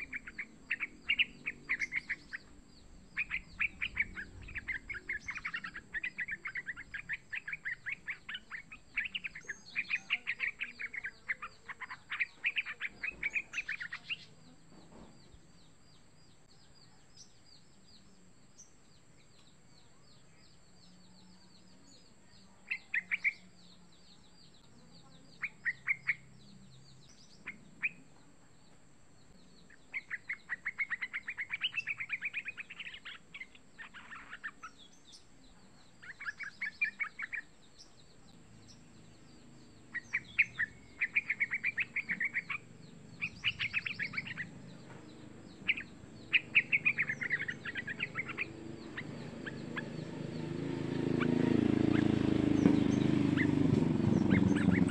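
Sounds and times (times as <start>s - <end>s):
bulbul chattering calls: 0.0s - 54.9s.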